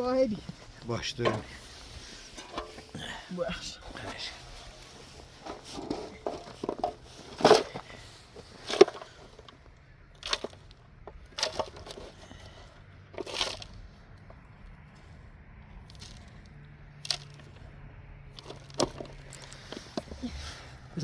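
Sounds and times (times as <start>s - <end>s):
digging in earth and stones: 0.0s - 21.0s.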